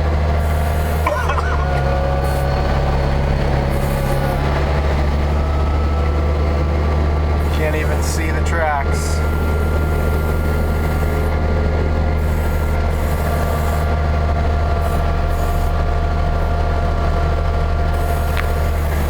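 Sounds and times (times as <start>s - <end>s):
snow vehicle engine under load: 0.0s - 19.0s.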